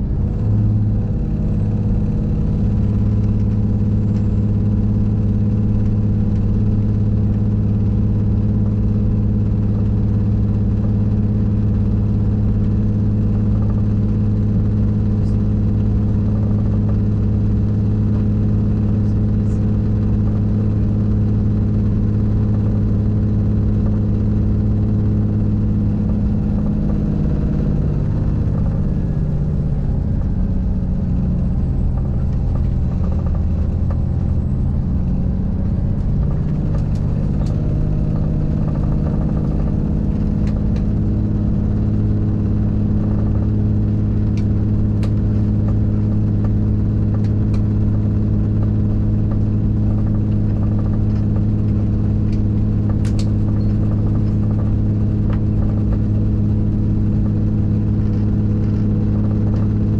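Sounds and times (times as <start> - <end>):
train diesel engine humming: 0.0 - 59.9.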